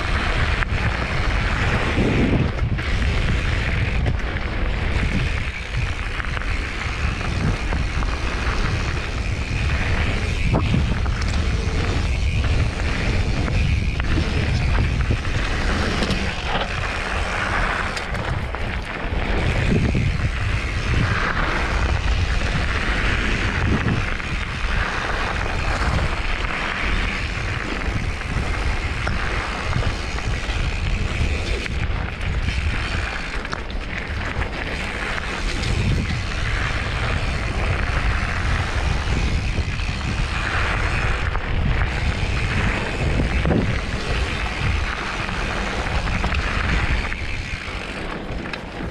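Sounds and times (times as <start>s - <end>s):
bike rattling: 0.0s - 48.9s
tyres crunching over gravel: 0.0s - 48.9s
wind rushing over microphone: 0.0s - 48.9s.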